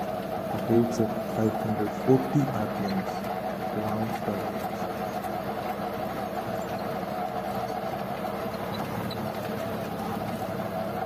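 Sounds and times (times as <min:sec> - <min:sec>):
gearbox whine: 0:00.0 - 0:11.0
tractor mechanical drone: 0:00.0 - 0:11.0.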